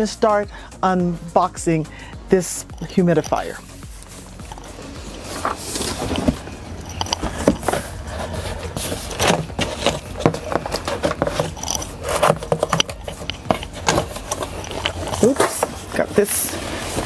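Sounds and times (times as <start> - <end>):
cardboard box scraping and knocking: 3.3 - 17.0.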